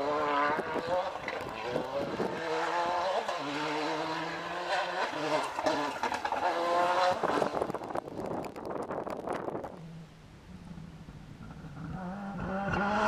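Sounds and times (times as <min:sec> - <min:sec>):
rally car engine driven hard: 0:00.0 - 0:13.0.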